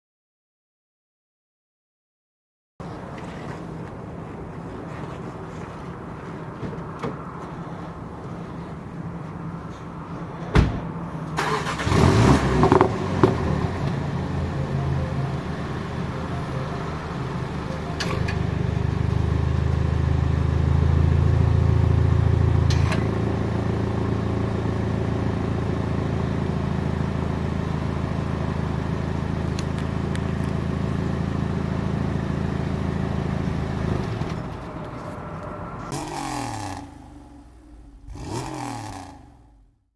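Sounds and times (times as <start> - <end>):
car engine idling: 2.8 - 39.7.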